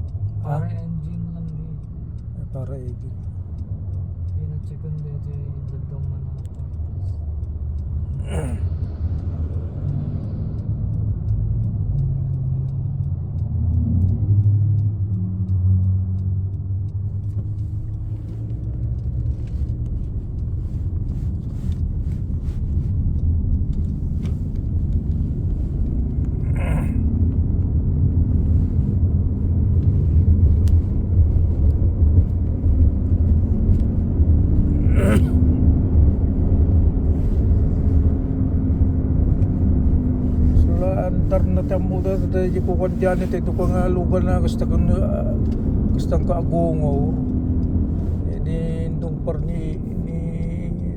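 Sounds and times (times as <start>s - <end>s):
low humming drone from car: 0.0s - 50.9s.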